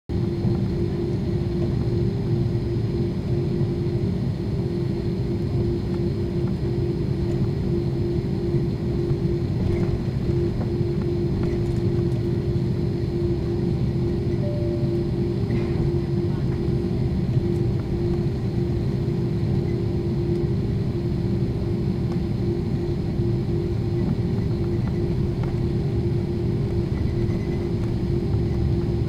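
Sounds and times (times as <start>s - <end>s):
jet engines rumbling in cabin: 0.1s - 29.0s.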